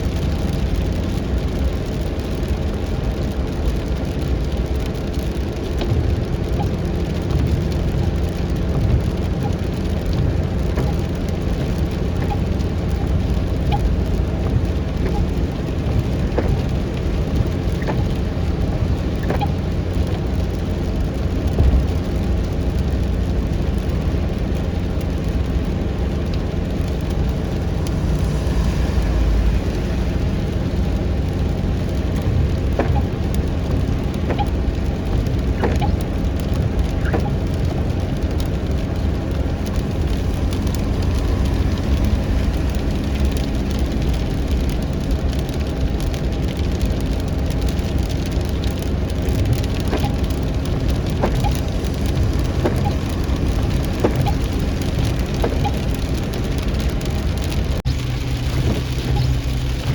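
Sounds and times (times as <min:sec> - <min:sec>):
car road and engine rumble: 0:00.0 - 0:59.9
rain on a car: 0:00.0 - 0:59.9.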